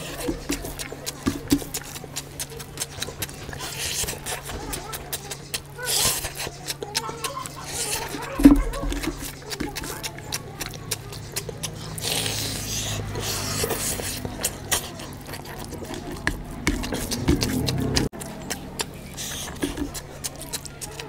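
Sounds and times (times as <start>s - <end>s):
fingers squishing rice: 0.0s - 21.0s
wet chewing and lip-smacking: 0.0s - 21.0s.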